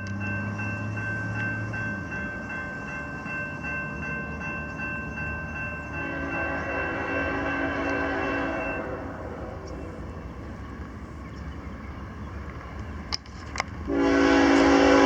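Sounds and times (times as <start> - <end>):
train rail and engine noise: 0.0 - 15.0.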